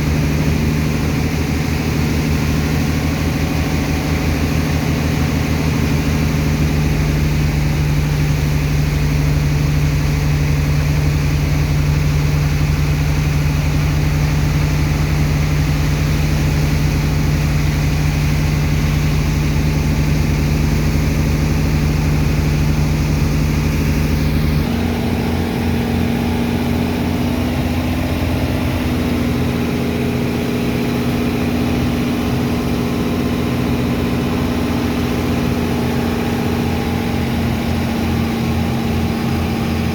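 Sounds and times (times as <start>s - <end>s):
dredger engine droning: 0.0s - 39.9s.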